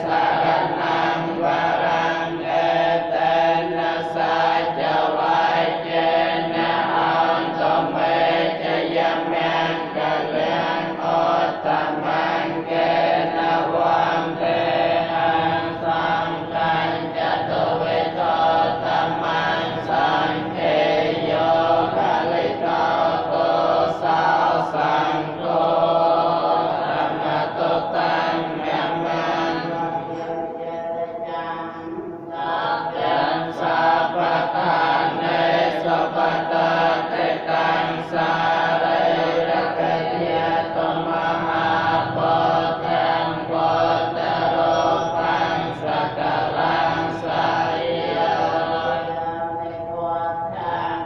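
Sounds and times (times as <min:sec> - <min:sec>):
monks chanting together: 0:00.0 - 0:51.0.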